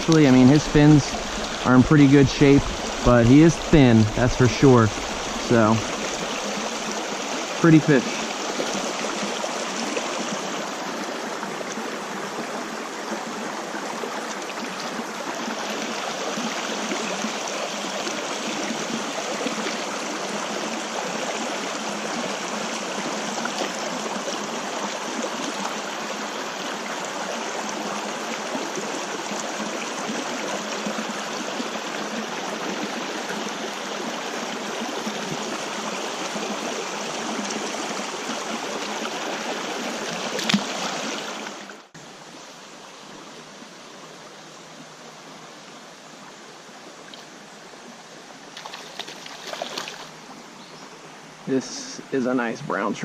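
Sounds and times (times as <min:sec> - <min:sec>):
flowing stream water: 0:00.0 - 0:53.0.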